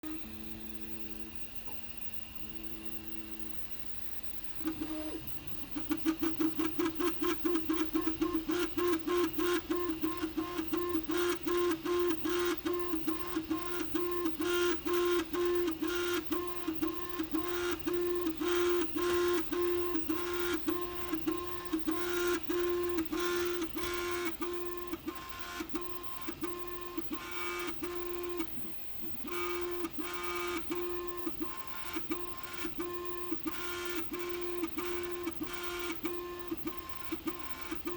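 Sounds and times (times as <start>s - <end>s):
three d printer motors whining: 0.0s - 37.9s.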